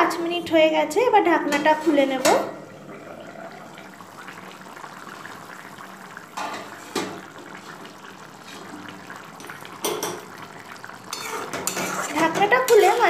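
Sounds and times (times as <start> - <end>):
curry bubbling at a boil: 0.2 - 13.0.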